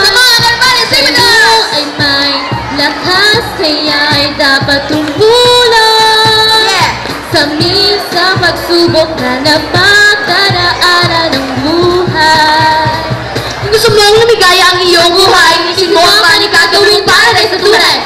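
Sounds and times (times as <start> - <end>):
backing music with steady beat: 0.0 - 18.0
girls singing into microphones: 0.0 - 18.0.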